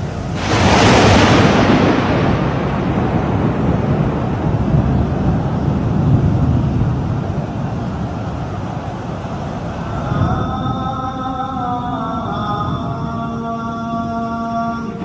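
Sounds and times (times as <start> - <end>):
wind buffeting microphone: 0.0 - 13.5.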